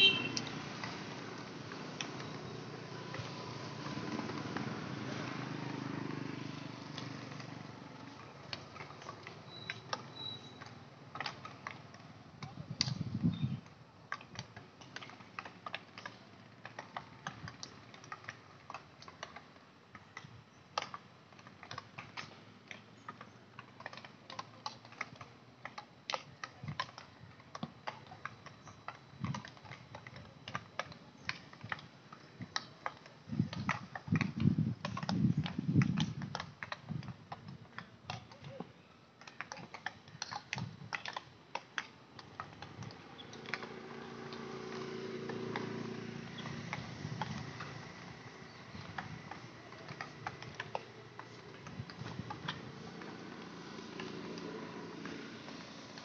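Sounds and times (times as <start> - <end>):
hockey sticks striking balls: 0.0 - 13.0, 13.6 - 56.0.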